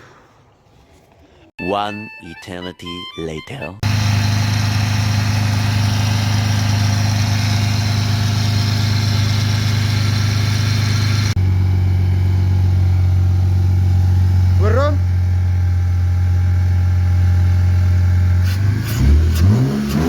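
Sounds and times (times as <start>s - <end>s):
car engine running: 3.8s - 20.0s.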